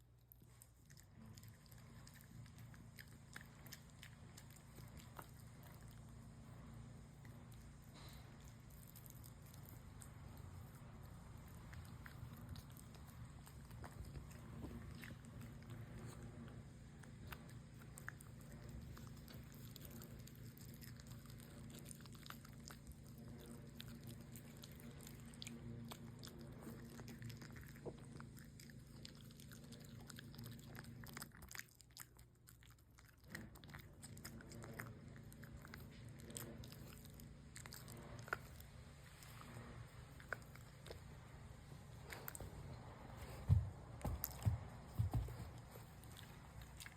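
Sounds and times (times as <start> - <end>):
dog chewing food: 0.0 - 46.9.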